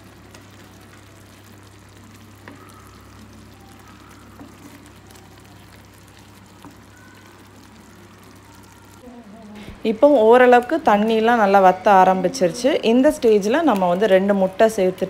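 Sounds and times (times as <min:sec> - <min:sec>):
liquid bubbling in a pan: 0:00.0 - 0:14.5.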